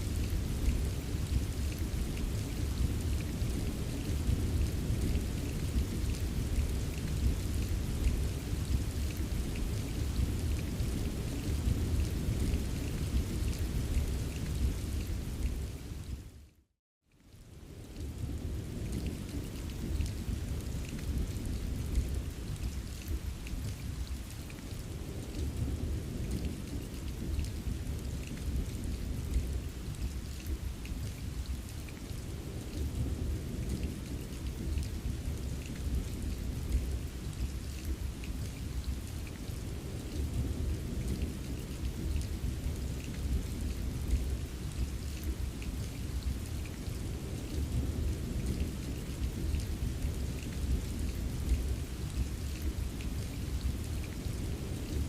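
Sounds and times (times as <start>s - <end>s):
continuous rainfall: 0.0s - 55.0s.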